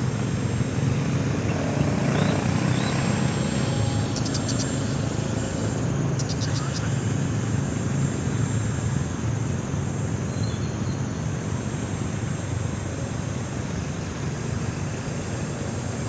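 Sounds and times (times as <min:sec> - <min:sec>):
rc plane motor droning: 0:00.0 - 0:16.0.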